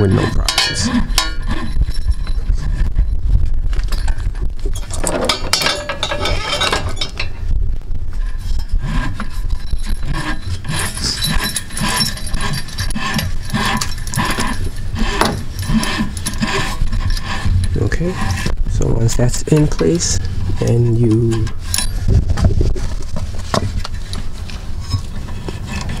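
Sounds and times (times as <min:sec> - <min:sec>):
cable scraping through sleeve: 0:00.0 - 0:26.0.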